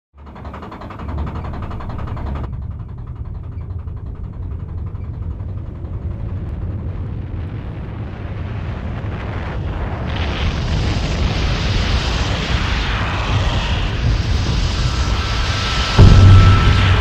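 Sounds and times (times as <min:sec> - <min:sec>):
low rumbling drone: 0:00.2 - 0:17.0.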